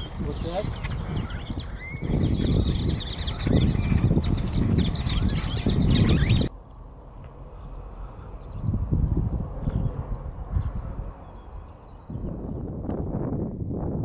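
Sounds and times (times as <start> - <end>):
wind and water rumble: 0.0 - 14.0.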